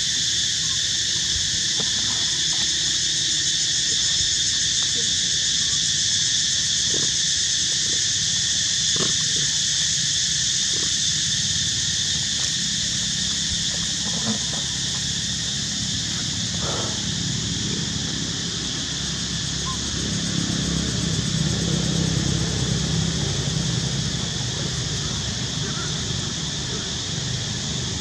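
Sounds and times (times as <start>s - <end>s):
high-pitched insect drone: 0.0s - 28.0s.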